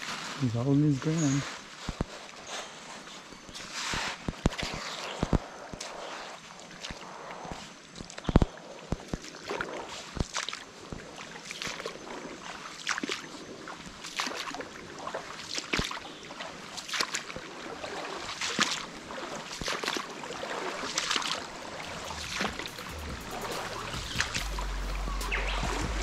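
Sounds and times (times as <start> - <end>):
creek water running: 0.0 - 26.0
footsteps wading through water: 1.2 - 26.0.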